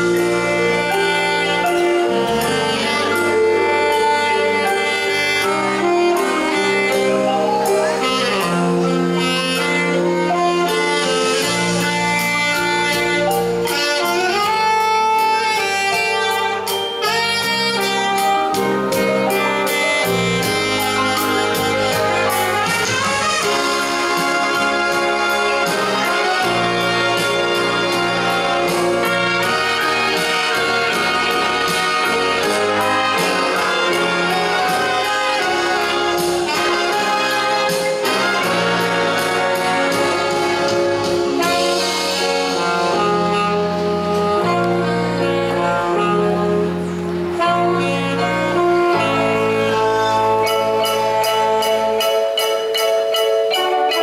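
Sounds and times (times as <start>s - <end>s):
brass band music: 0.0s - 54.0s
saxophone: 0.0s - 54.0s.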